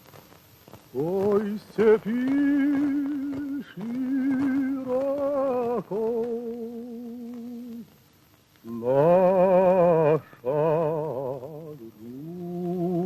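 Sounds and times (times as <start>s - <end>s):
man singing unaccompanied: 0.9s - 8.0s, 8.6s - 13.0s.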